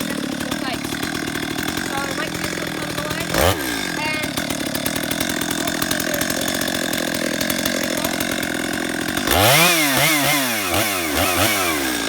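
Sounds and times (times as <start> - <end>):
chainsaw engine idling and revving: 0.0 - 12.0.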